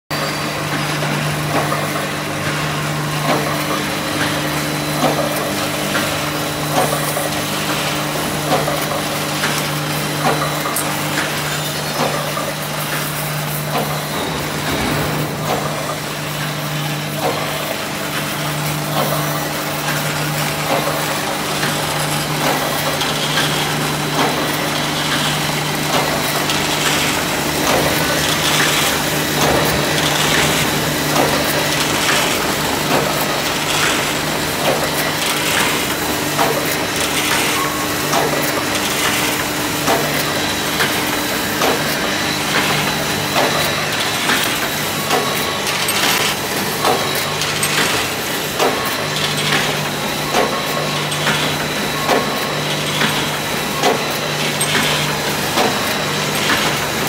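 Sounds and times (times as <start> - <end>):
machine electrical hum: 0.1 - 57.0
machine clacking: 0.7 - 57.0.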